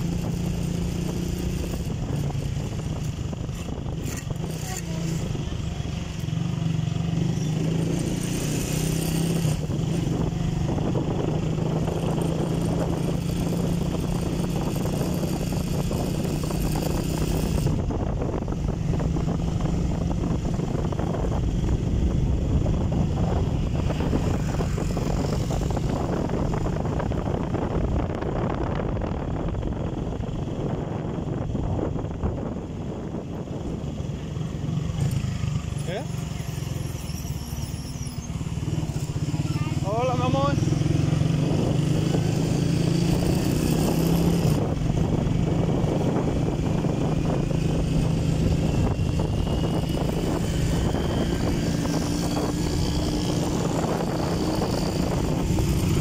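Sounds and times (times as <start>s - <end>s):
road and wind noise: 0.0s - 56.0s
vehicle engine cruising: 0.0s - 56.0s.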